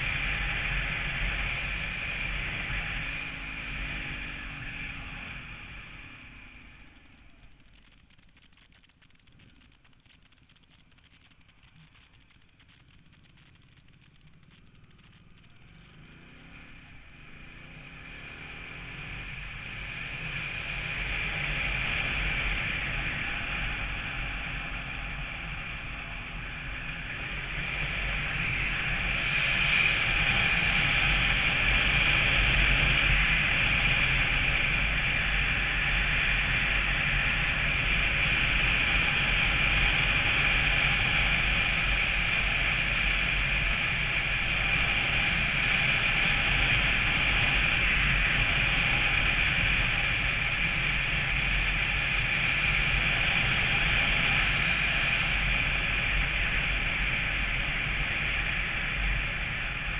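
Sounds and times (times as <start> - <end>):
road rumble: 0.0 - 59.9.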